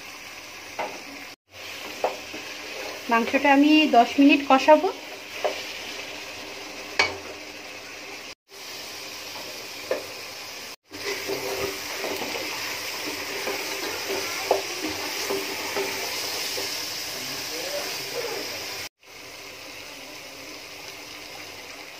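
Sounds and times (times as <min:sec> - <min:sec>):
meat sizzling in a pot: 0:00.0 - 0:21.9.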